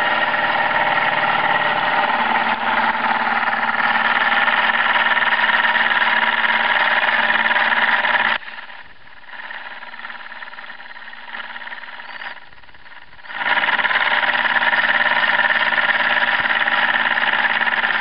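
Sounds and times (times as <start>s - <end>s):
model steam engine running: 0.0s - 18.0s.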